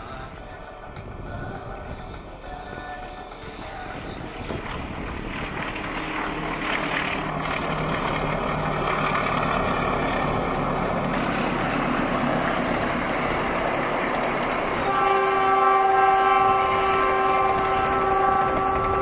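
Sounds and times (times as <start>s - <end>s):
locomotive engine drone: 0.0s - 19.0s
train wheels rumbling on rails: 0.0s - 19.0s.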